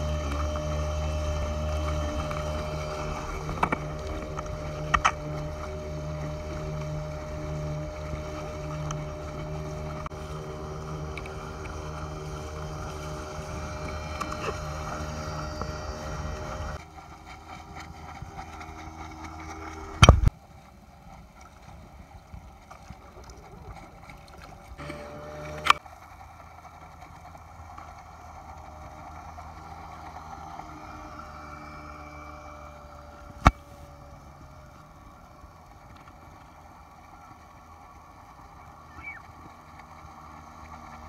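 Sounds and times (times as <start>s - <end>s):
motorized surfboard running: 0.0s - 41.0s.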